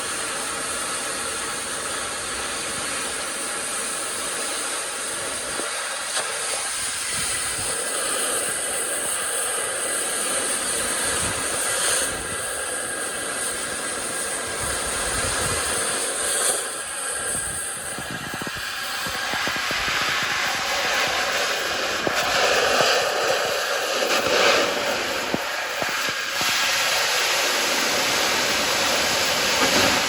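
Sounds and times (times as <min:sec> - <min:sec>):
cutting torch hissing: 0:00.0 - 0:30.0.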